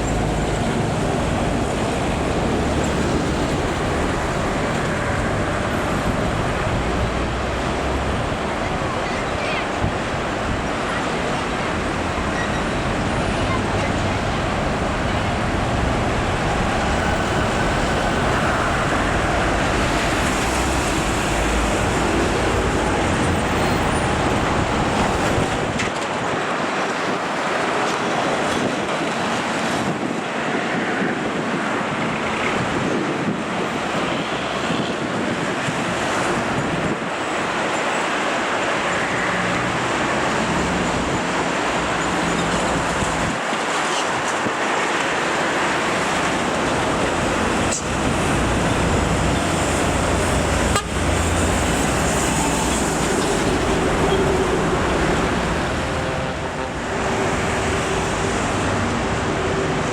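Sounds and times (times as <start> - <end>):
heavy trucks: 0.0 - 59.9
road traffic noise: 0.0 - 59.9.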